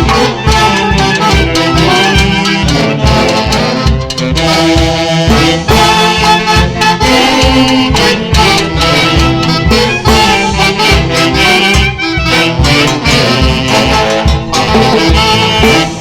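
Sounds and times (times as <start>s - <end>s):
folk orchestra playing up-tempo tune: 0.0s - 16.0s.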